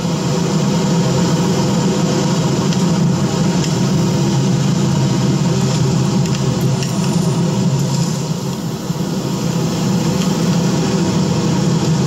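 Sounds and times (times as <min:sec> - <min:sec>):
low rumbling drone with hiss: 0:00.0 - 0:12.0.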